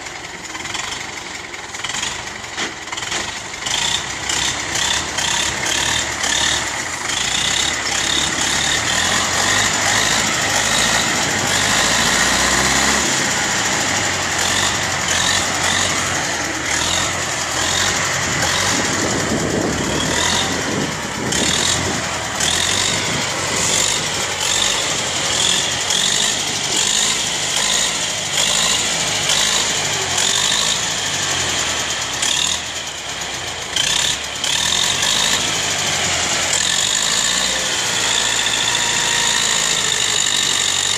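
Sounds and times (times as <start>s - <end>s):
tractor diesel engine clatter: 0.0s - 40.9s.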